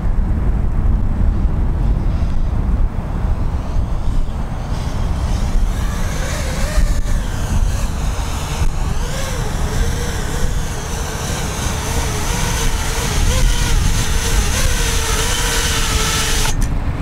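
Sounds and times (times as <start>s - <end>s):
quadcopter propellers buzzing: 0.0s - 17.0s
wind buffeting microphone: 0.0s - 17.0s.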